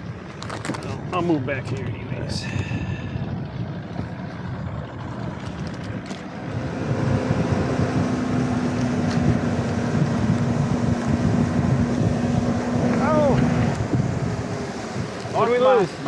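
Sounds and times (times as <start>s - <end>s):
outboard motor droning: 0.0s - 16.0s
water rushing past boat: 0.9s - 16.0s
wind rushing: 2.1s - 5.4s, 6.3s - 16.0s.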